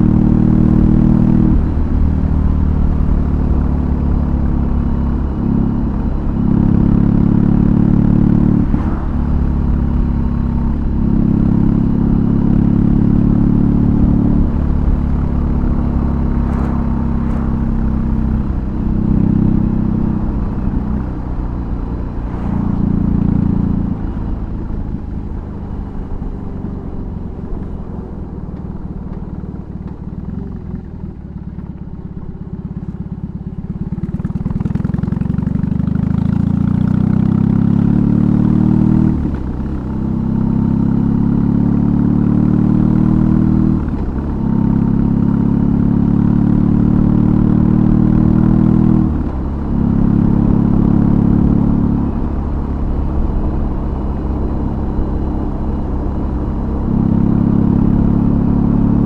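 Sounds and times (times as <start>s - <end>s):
motorcycle engine riding: 0.0s - 59.0s.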